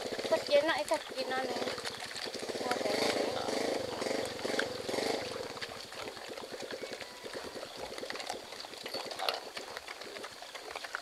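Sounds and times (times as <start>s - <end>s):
pigs crunching and chomping grain: 0.0s - 11.0s.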